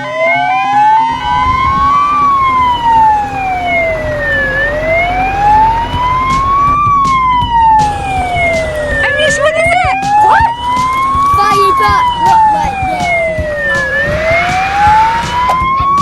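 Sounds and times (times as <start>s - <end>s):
wailing emergency siren: 0.0s - 16.0s
low rumble: 0.8s - 15.9s.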